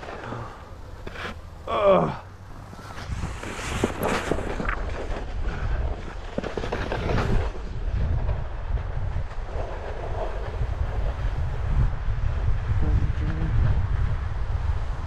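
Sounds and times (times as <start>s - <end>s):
board scraping over snow: 0.0s - 12.8s
wind buffeting microphone: 0.0s - 15.0s.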